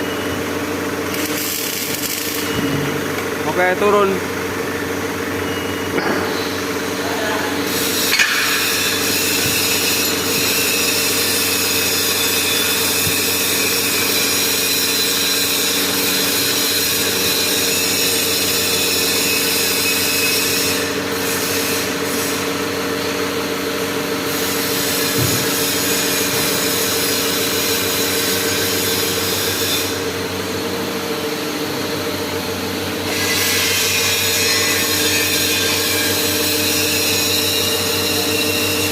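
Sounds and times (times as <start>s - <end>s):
hydraulic pump humming and whining: 0.0s - 38.9s.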